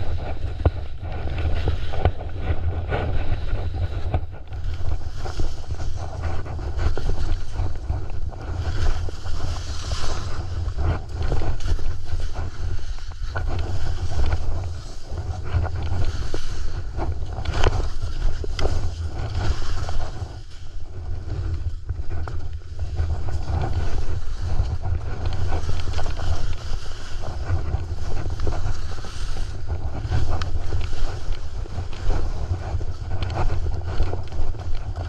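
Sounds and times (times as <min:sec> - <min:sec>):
skis scraping over snow: 0:00.0 - 0:35.0
wind buffeting microphone: 0:00.0 - 0:35.0.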